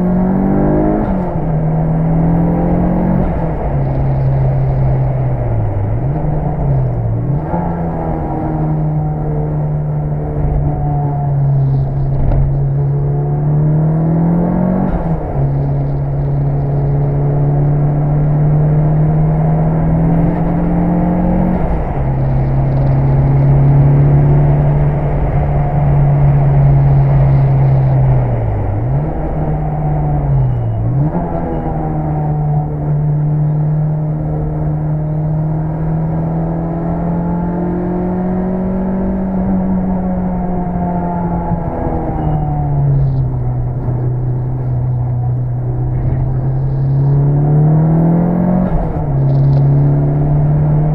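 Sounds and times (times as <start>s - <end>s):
turbocharged car engine revving: 0.0s - 50.9s.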